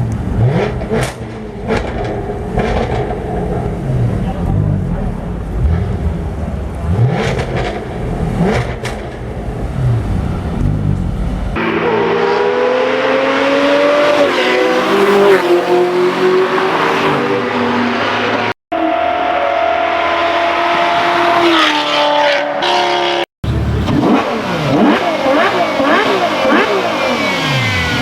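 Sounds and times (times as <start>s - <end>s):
car engines accelerating hard: 0.0s - 28.0s.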